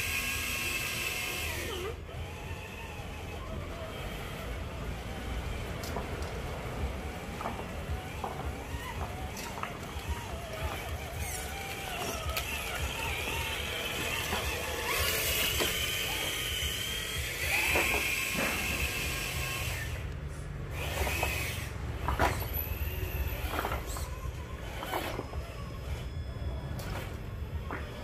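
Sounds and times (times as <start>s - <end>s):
toy truck motor whining: 0.0s - 28.0s.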